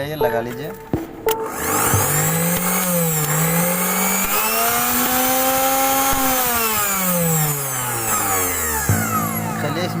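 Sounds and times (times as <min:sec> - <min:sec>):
mixer grinder motor whining: 0:01.4 - 0:10.0.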